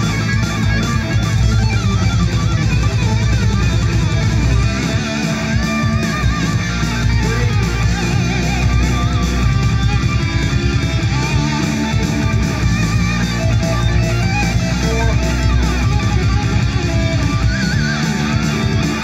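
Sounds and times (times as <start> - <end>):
rock music from speaker: 0.0 - 19.0.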